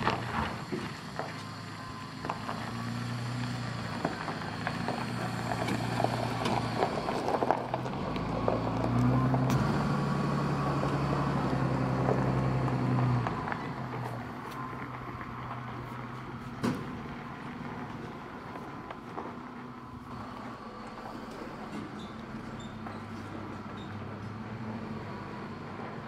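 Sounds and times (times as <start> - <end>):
tyres crunching over stones: 0.0 - 23.8
engine running at low revs: 0.0 - 26.0.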